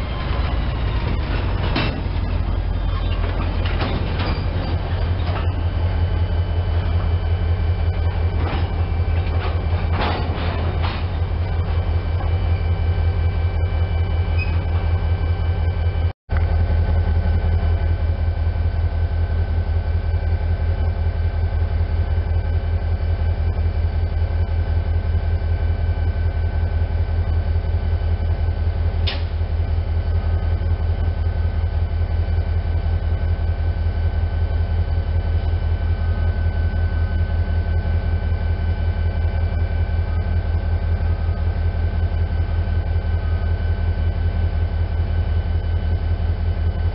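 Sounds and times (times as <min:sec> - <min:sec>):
locomotive engine idling: 0:00.0 - 0:46.9.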